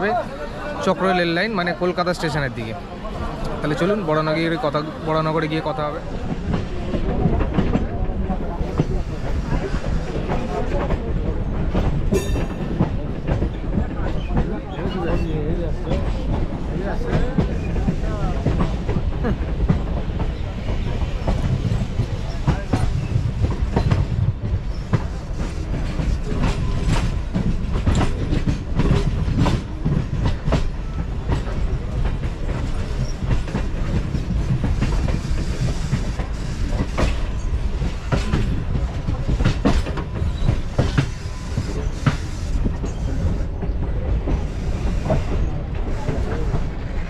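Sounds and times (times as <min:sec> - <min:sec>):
train wheels rumbling on track: 0:00.0 - 0:47.0
clacks over rail joints: 0:05.5 - 0:47.0.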